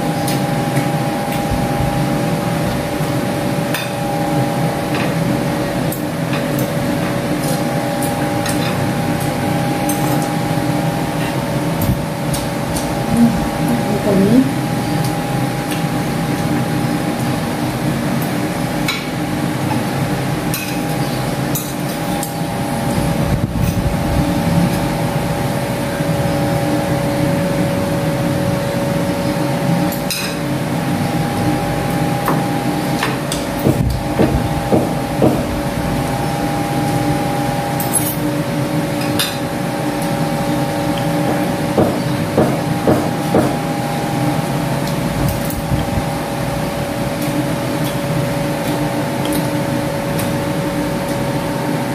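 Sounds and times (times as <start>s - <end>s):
steady mechanical hum: 0.0s - 51.9s.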